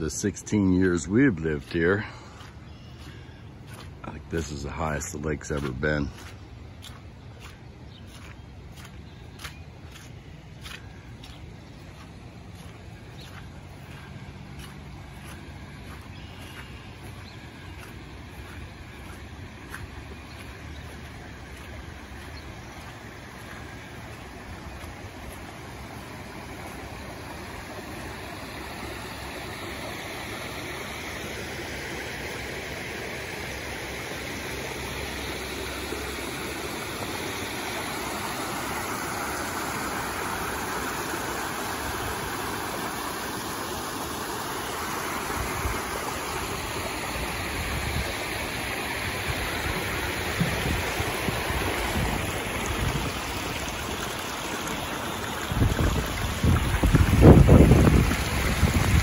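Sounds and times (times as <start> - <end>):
water rushing over a spillway: 1.0 - 59.0.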